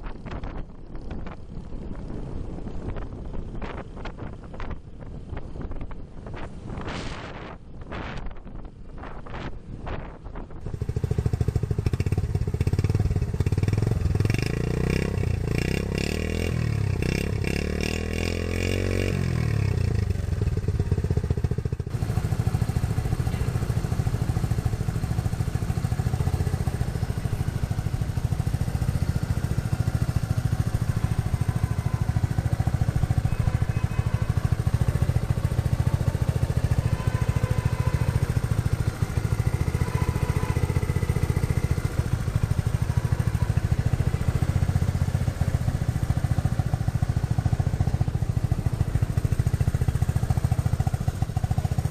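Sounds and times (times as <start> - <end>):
motorcycle engine revving and idling: 0.0 - 51.9.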